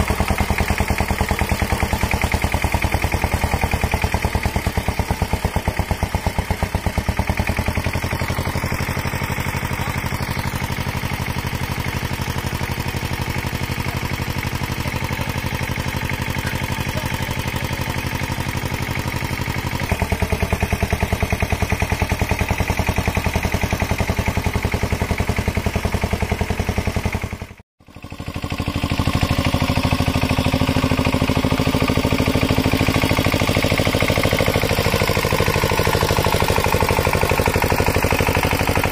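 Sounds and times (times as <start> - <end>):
diesel tractor engine chugging: 0.0 - 38.9.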